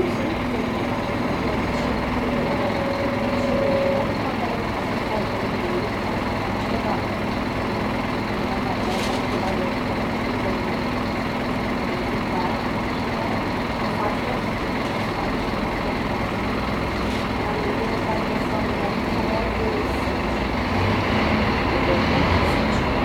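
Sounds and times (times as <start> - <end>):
bus diesel engine running: 0.0 - 23.0
road and traffic noise: 0.0 - 23.0.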